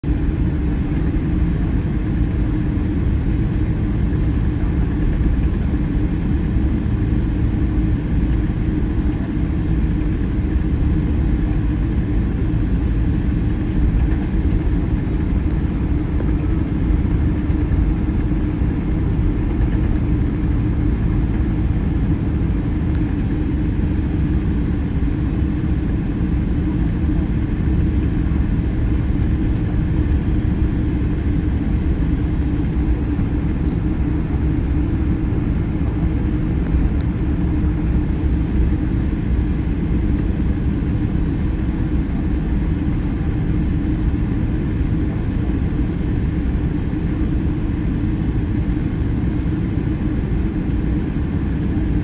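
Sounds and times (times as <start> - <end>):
jet engines idling in cabin: 0.0 - 52.0.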